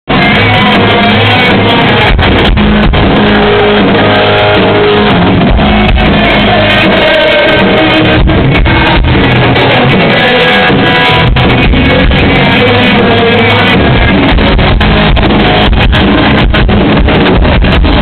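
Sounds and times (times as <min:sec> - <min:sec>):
bass guitar: 0:00.0 - 0:18.0
drums: 0:00.0 - 0:18.0
electric guitar: 0:00.1 - 0:18.0.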